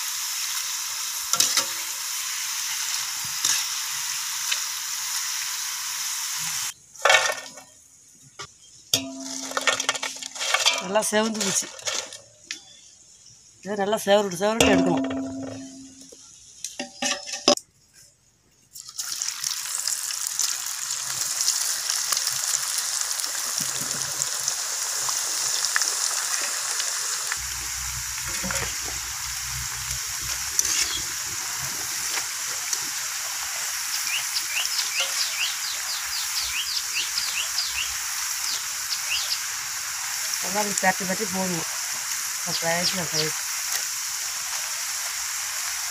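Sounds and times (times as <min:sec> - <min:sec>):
potatoes deep-frying in oil: 0:00.0 - 0:17.6, 0:18.6 - 0:45.9.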